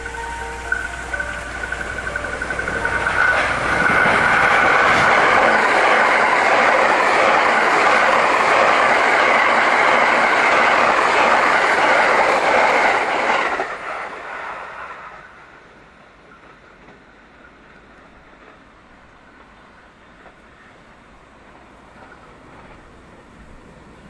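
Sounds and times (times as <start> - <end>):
train wheels rushing on rails: 0.0 - 24.0.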